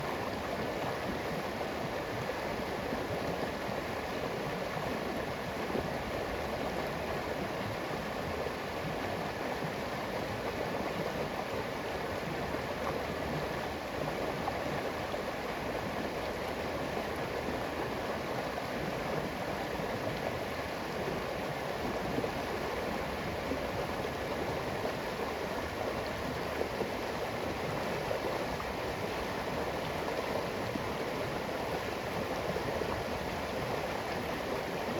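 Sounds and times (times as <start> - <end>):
river water rushing and gurgling: 0.0 - 34.9.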